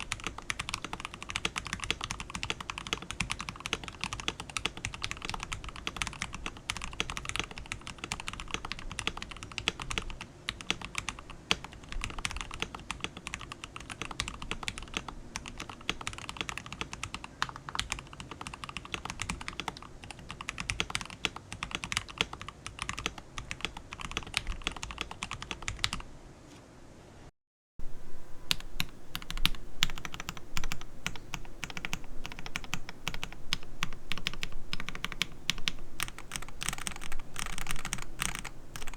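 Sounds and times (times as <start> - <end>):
typing on keyboard: 0.0 - 26.0, 28.4 - 38.9.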